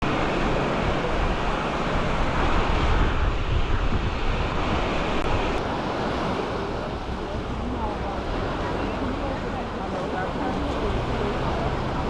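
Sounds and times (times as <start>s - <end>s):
sea waves washing on beach: 0.0s - 12.0s
wind rumbling on microphone: 0.0s - 12.0s.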